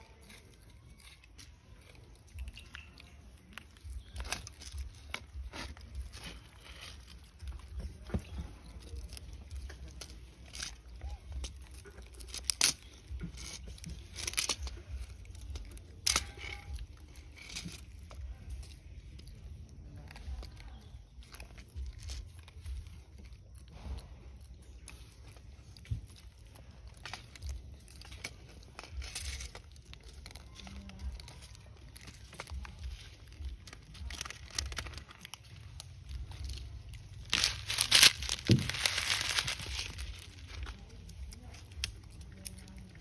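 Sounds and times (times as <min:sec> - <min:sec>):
dry leaves crunching and rustling: 0:00.0 - 0:43.0.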